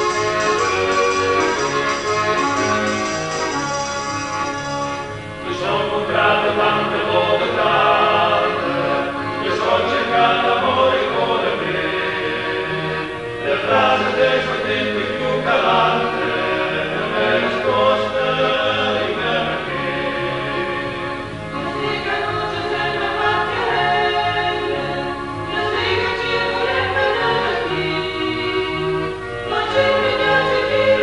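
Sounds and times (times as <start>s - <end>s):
choir singing: 0.0s - 4.6s, 5.4s - 31.0s.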